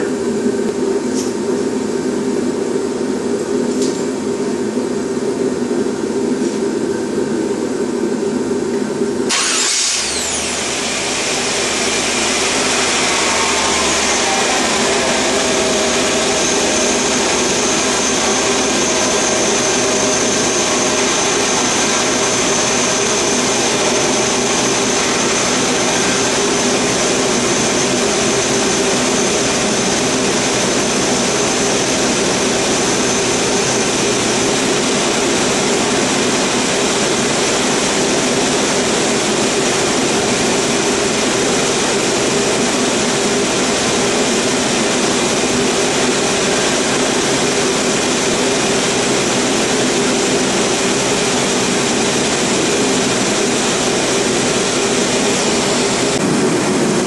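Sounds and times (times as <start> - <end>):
machinery running: 0.0 - 57.0.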